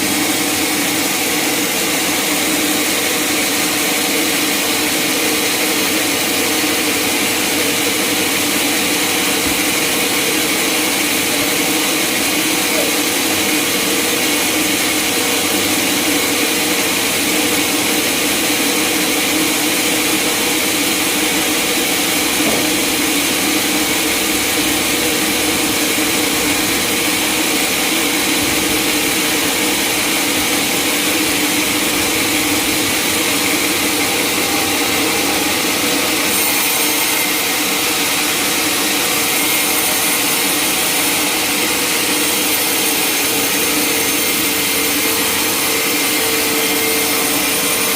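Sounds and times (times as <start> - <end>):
saw whining through log: 0.0 - 47.9.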